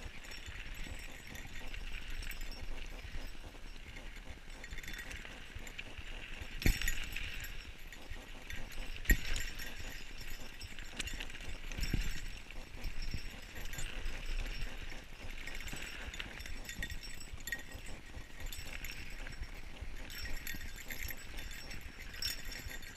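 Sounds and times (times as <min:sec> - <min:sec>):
bike rattling over rough ground: 0:00.0 - 0:22.9.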